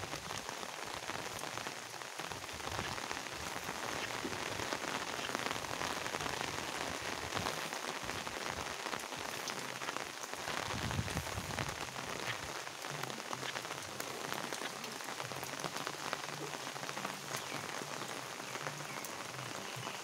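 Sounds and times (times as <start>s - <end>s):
close raindrops ticking: 0.0s - 20.0s
steady rain falling: 0.0s - 20.0s.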